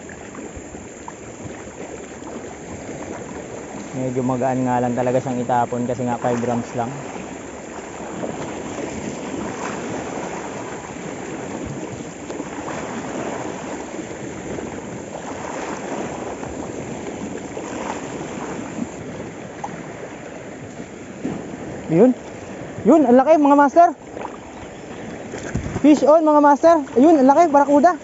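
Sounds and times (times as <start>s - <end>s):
sea waves splashing over rocks: 0.0s - 28.0s
wind: 0.0s - 28.0s.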